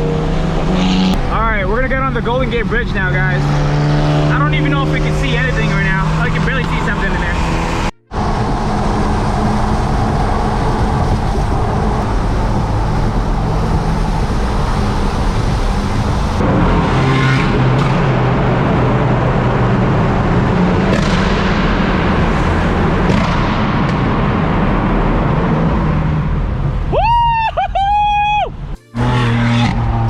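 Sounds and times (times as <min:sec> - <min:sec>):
car engine drone: 0:00.0 - 0:27.0, 0:27.8 - 0:30.0.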